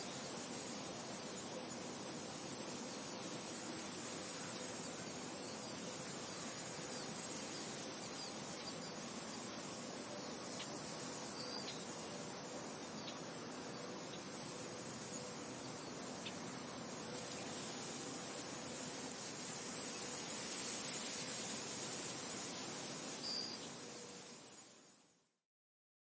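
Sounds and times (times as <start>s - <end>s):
faint high chirps: 4.2s - 25.1s.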